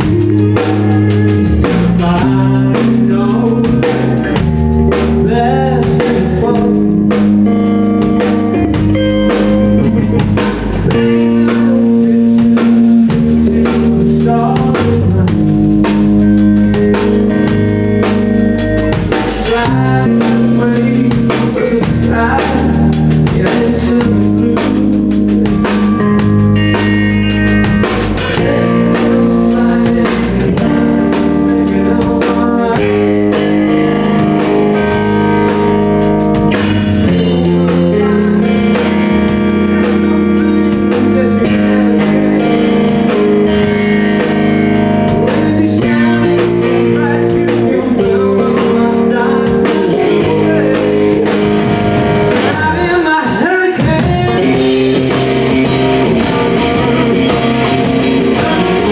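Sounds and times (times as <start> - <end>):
man singing: 0.0 - 26.9, 28.2 - 35.8, 36.5 - 58.9
blues-rock band playing: 0.0 - 58.9
drum-kit beat: 0.0 - 58.9
electric guitar: 0.0 - 58.9.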